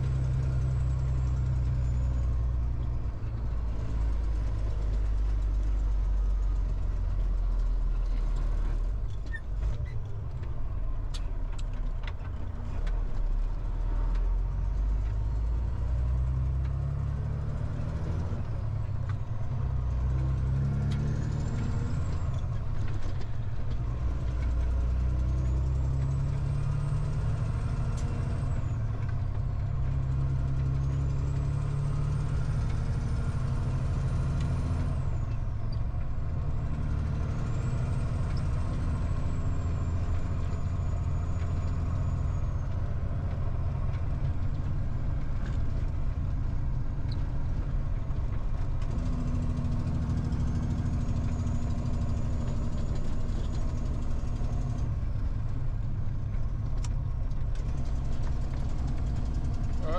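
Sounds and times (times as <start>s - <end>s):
truck diesel engine running: 0.0s - 59.9s.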